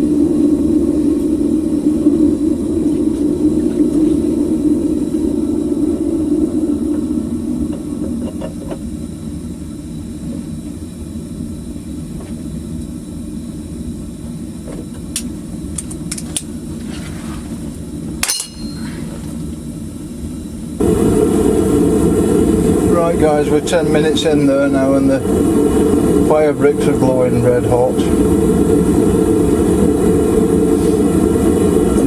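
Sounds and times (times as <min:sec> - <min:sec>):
propane burner rushing: 0:00.0 - 0:32.0.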